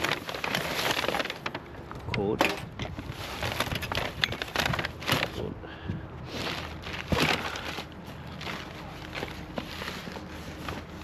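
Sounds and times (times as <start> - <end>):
junk clattering and rustling: 0.0 - 5.5, 6.4 - 11.0.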